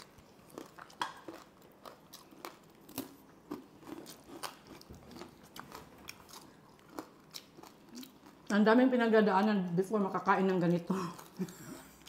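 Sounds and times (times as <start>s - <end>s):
chewing crispy fried food: 0.0s - 8.7s, 10.2s - 12.0s.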